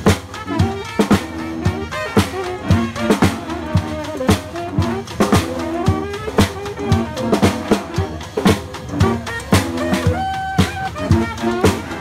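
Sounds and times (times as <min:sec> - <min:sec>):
bass and snare drums beat: 0:00.0 - 0:12.0
brass band playing: 0:00.0 - 0:12.0.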